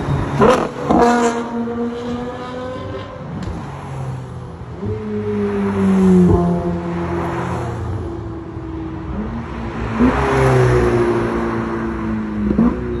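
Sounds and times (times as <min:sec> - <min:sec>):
car engine revving: 0:00.2 - 0:13.0.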